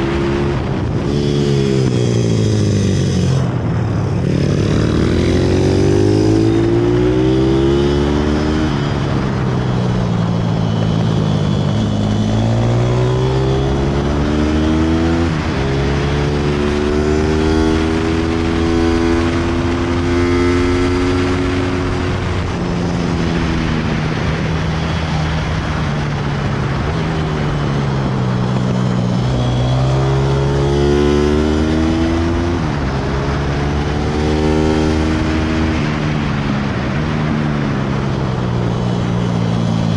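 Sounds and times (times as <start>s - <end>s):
motorbike engine revving: 0.0s - 37.3s
wind noise: 0.0s - 39.9s.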